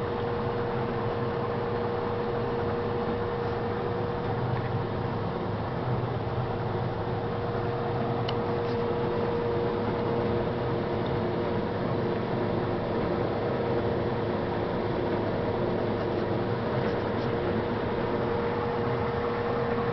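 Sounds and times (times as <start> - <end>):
combine harvester running: 0.0 - 19.9.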